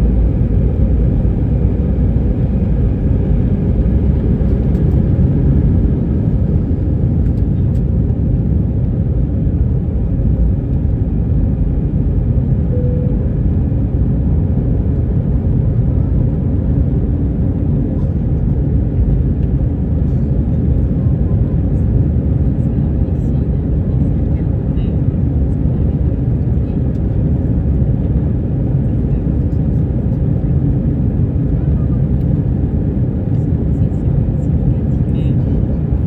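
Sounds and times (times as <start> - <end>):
aircraft engine rumble: 0.0 - 36.0.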